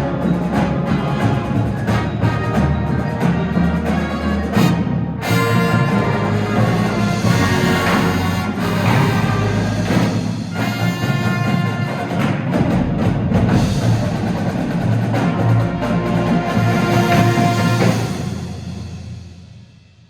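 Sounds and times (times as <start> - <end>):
drum strikes: 0.0 - 19.7
marching band playing: 0.0 - 19.9.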